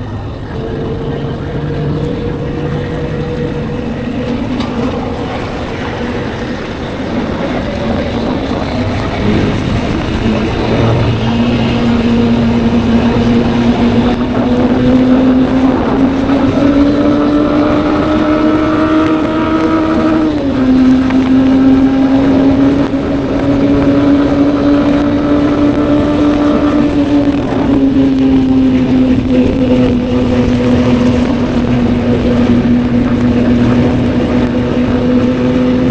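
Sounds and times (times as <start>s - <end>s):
motorcycle engine cruising: 0.0s - 35.9s.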